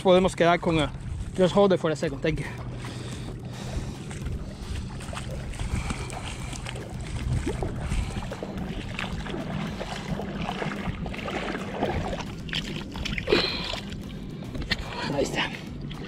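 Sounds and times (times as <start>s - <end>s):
wind rushing over microphone: 0.0s - 1.6s, 3.4s - 14.8s
steady low hum: 0.0s - 16.0s.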